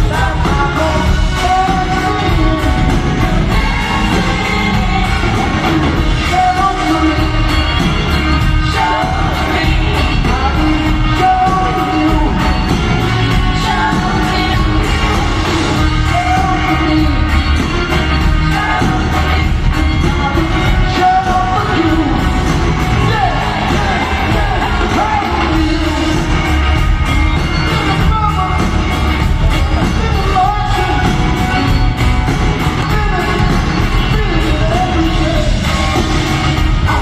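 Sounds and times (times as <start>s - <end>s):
audience shouting and whooping: 0.0s - 37.0s
live rock band: 0.0s - 37.0s
person singing lead: 0.0s - 37.0s.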